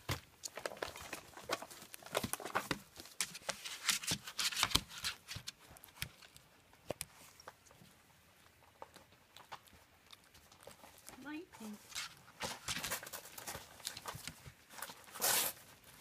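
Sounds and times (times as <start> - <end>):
paws scrabbling on newspaper: 0.0 - 16.0.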